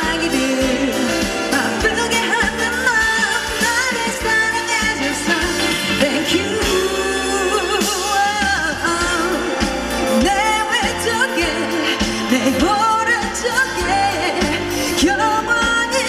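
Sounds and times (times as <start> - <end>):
pop band accompaniment: 0.0 - 16.0
woman singing pop ballad: 0.0 - 16.0.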